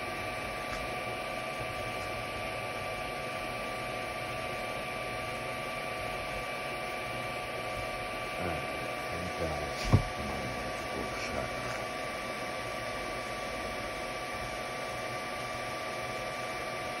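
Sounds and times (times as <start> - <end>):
cooling fans whirring: 0.0 - 17.0
high-pitched whine: 0.0 - 17.0.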